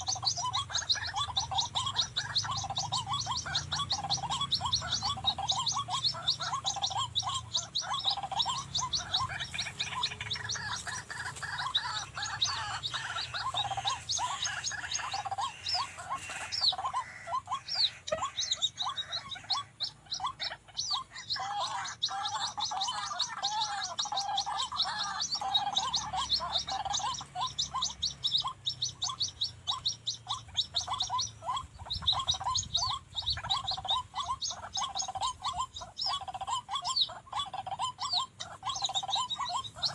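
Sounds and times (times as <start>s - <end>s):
waterhens croaking calls: 0.0s - 39.9s.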